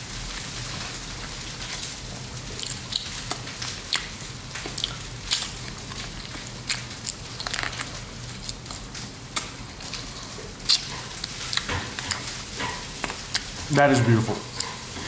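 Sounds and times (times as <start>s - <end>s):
person chewing with wet smacks: 0.2s - 15.0s.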